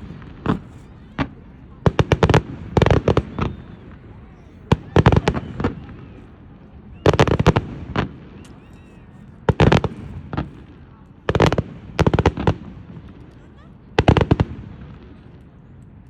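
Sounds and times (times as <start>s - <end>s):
fireworks cracking: 0.0s - 8.7s, 9.5s - 16.0s.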